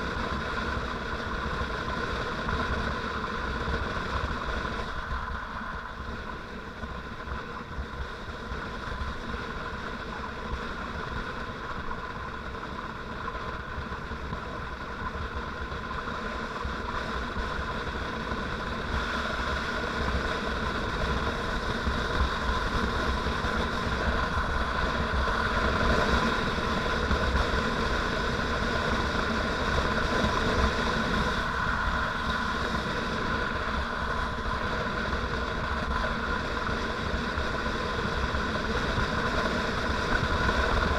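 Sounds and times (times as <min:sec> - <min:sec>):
motorcycle engine running: 0:00.0 - 0:40.9
road and wind rumble: 0:00.0 - 0:40.9.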